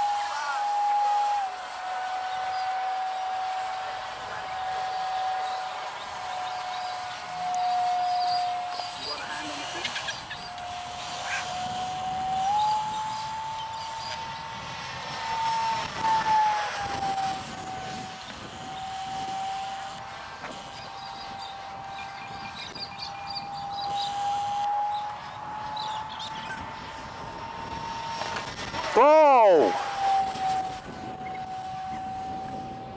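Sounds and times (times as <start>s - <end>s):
model jet ducted fan whine: 0.0s - 32.9s.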